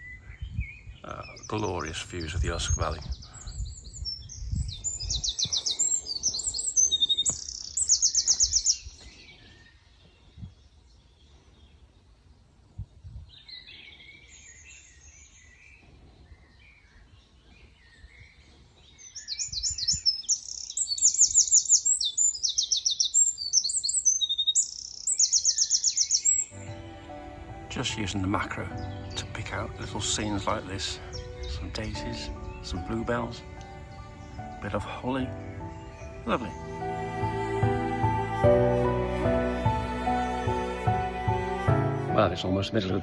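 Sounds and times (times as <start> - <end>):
songbirds singing: 0.0 - 43.0.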